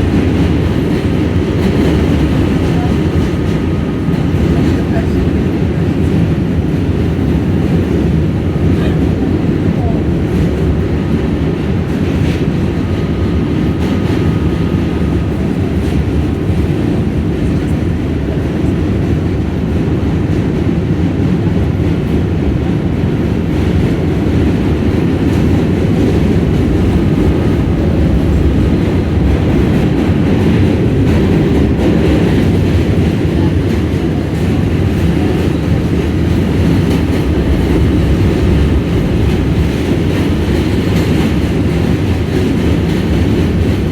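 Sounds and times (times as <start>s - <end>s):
subway train rumbling on track: 0.0s - 43.9s.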